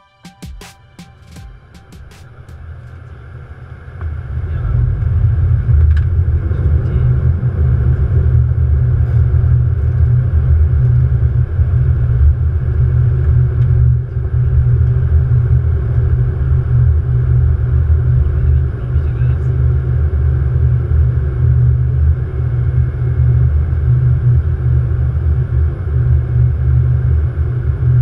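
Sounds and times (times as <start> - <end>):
faint steady hum: 1.3 - 28.0
airflow and engine rumble: 1.4 - 28.0.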